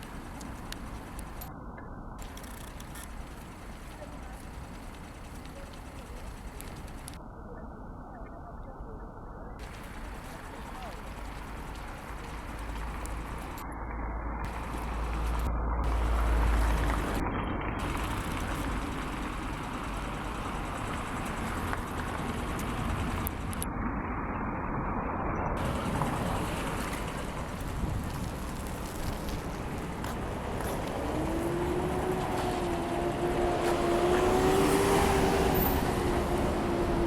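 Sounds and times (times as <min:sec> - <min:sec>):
wind gusting across microphone: 0:00.0 - 0:37.0.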